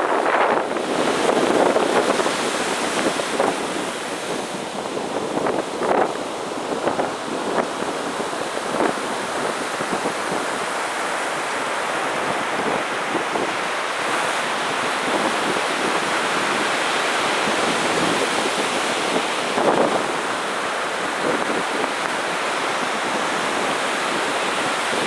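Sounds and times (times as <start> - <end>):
ocean surf breaking: 0.0 - 25.0.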